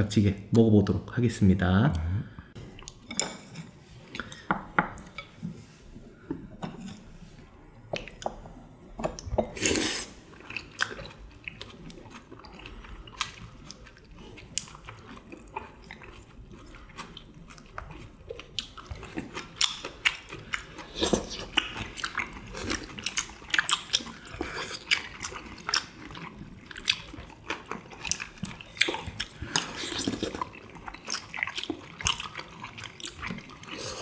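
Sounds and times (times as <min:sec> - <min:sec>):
people chewing: 0:02.6 - 0:34.0.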